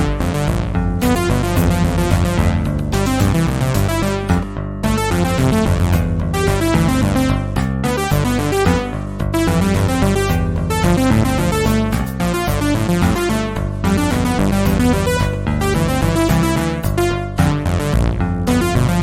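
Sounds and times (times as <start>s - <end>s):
upbeat electronic synthesizer music: 0.0s - 19.0s.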